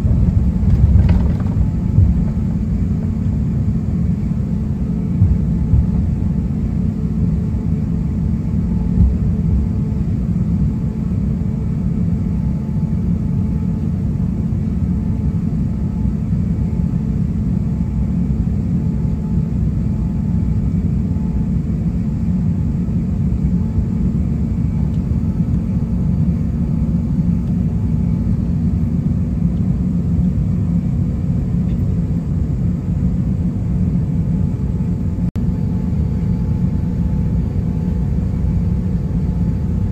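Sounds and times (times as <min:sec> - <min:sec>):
aircraft cabin taxiing rumble: 0:00.0 - 0:39.9.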